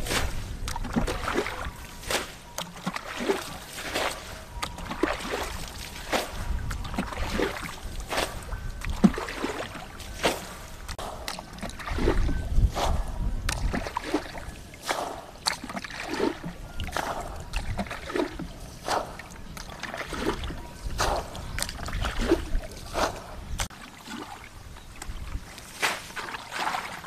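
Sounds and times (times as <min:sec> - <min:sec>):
shallow water splashing: 0:00.0 - 0:27.0.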